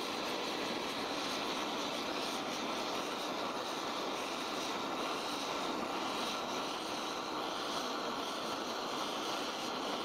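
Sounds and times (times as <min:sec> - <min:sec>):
blowtorch roaring: 0:00.0 - 0:10.0.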